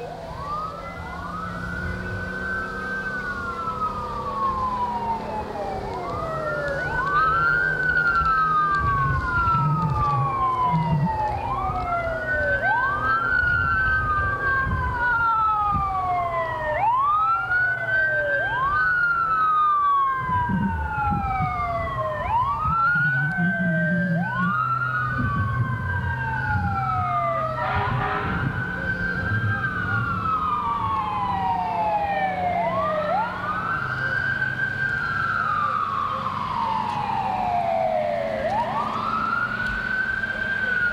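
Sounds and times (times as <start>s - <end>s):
engines rumbling: 0.0s - 40.9s
fire truck sirens wailing: 0.0s - 40.9s.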